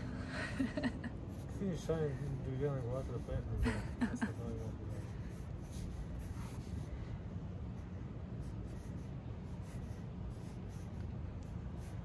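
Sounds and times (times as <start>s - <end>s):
steady low rumble: 0.0s - 12.0s
pencil scratching on paper: 1.1s - 7.0s, 7.7s - 12.0s.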